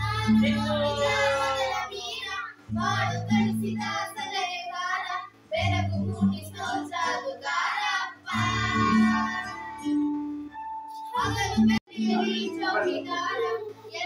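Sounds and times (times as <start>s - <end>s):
girl and women singing: 0.0s - 9.9s, 11.1s - 14.0s
musical backing: 0.0s - 14.0s.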